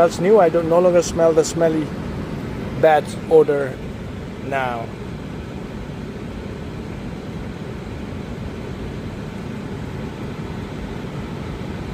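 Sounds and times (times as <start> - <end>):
car blower fan rushing air: 0.0 - 11.9.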